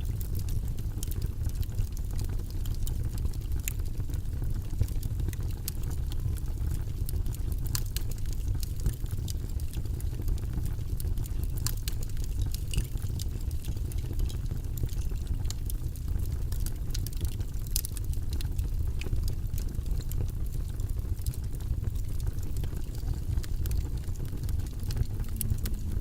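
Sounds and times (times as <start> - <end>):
low rumbling white noise: 0.0 - 26.0.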